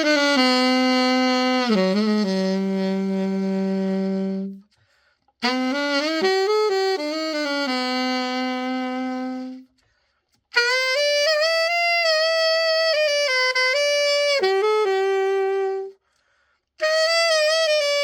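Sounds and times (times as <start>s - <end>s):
alto saxophone melody: 0.0s - 18.0s.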